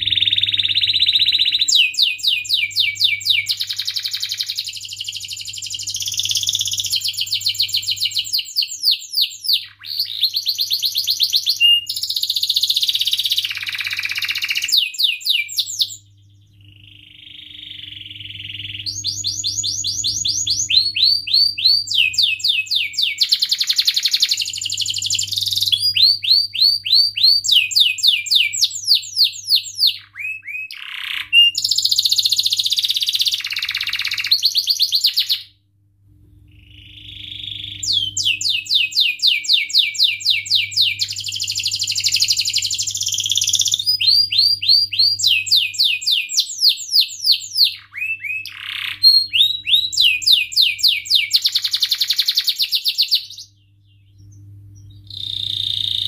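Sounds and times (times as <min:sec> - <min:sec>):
canary singing: 0:00.0 - 0:35.6, 0:36.5 - 0:56.0.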